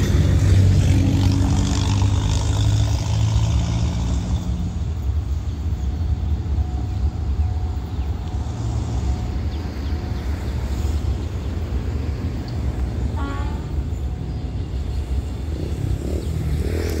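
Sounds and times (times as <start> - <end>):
distant freight train rumble: 0.0 - 17.0.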